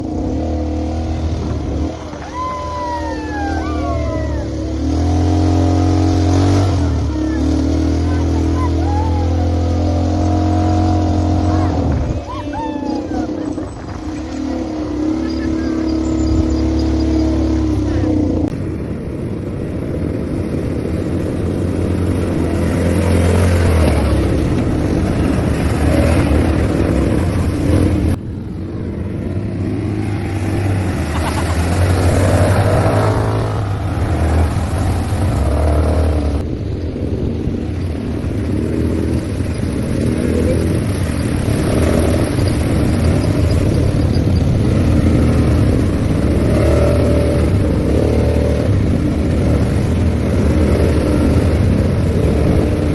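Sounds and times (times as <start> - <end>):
atv engine revving: 0.0 - 18.9, 19.6 - 52.9.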